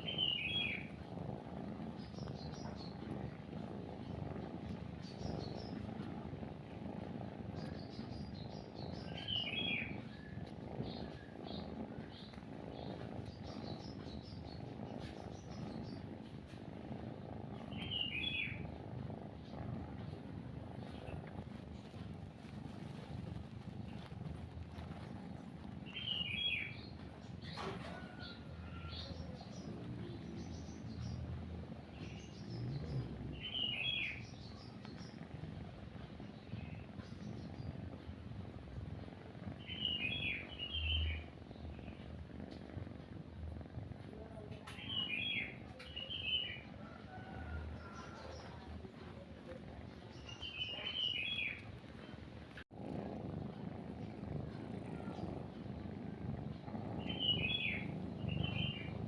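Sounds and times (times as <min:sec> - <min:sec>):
cat purring: 0:00.0 - 0:59.0
songbirds chirping: 0:00.0 - 0:59.0.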